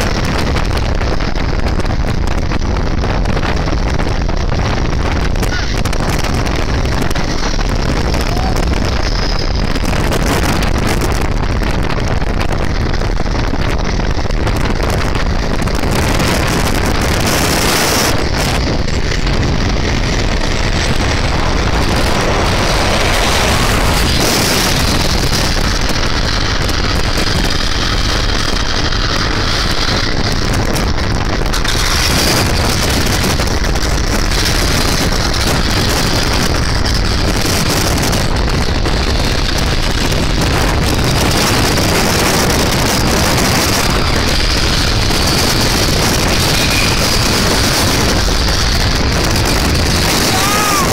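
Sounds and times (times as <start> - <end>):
motorcycle engine: 0.0 - 50.9
wind on microphone: 0.0 - 50.9.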